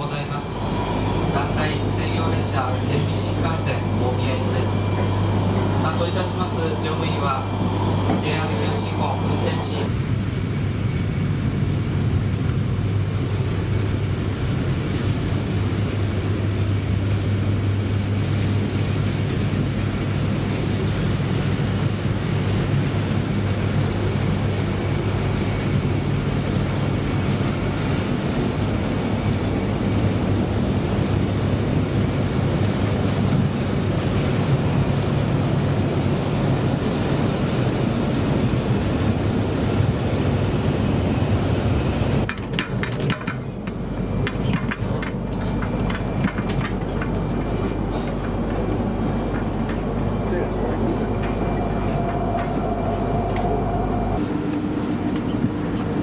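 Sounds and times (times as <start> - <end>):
constant low hum: 0.0 - 56.0
train cabin rumble and hiss: 0.0 - 56.0.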